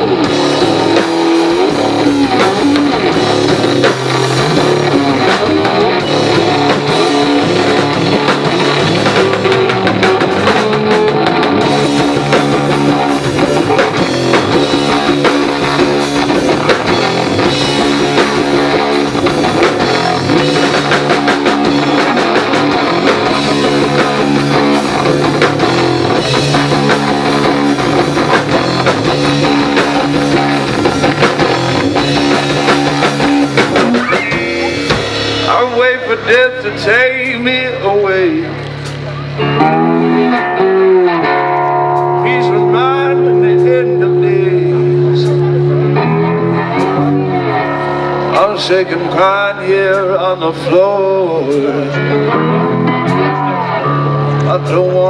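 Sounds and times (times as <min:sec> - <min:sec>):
drums: 0:00.0 - 0:55.0
electric guitar: 0:00.0 - 0:55.0
rock band playing live: 0:00.0 - 0:55.0.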